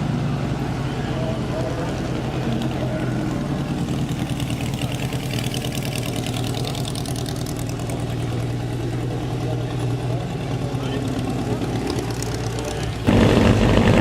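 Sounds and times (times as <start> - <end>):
race car engine idling: 0.0 - 14.0.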